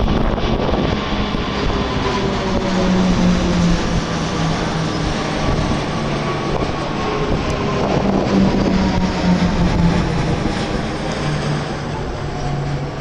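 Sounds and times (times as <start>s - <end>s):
propeller planes droning overhead: 0.0s - 13.0s.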